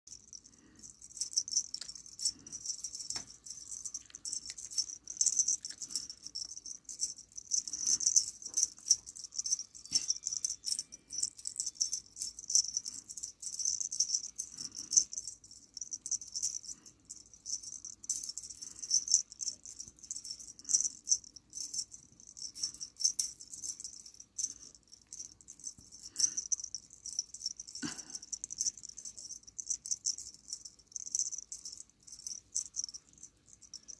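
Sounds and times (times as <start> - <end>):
cat toy metal parts jingling: 0.1 - 33.9.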